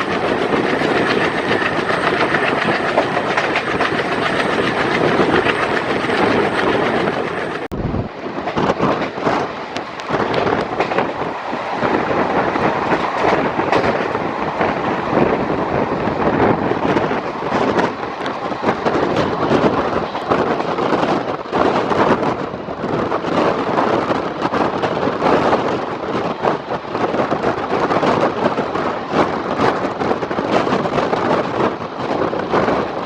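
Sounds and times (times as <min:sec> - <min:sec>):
train wheels clattering over rail joints: 0:00.0 - 0:07.7, 0:08.4 - 0:33.0
diesel locomotives chugging: 0:00.0 - 0:33.0.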